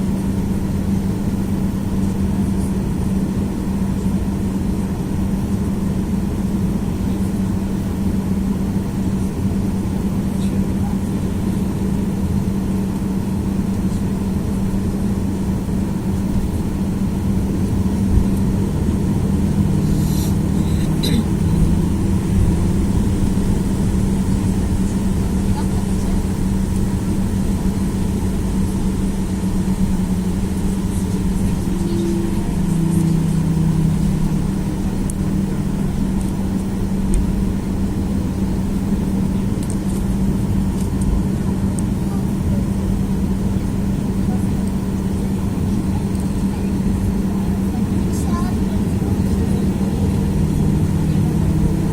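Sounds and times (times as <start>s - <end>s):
jet engines droning: 0.0s - 51.9s
second low hum: 6.4s - 51.9s.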